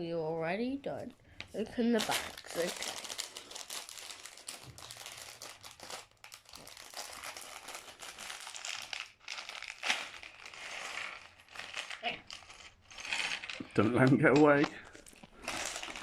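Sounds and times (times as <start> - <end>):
plastic bags crinkling and tearing: 1.8 - 16.0.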